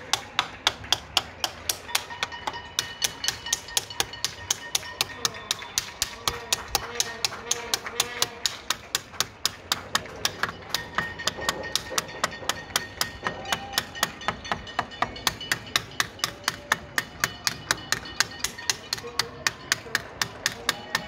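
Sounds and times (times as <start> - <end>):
steady sharp knocks: 0.0 - 21.0.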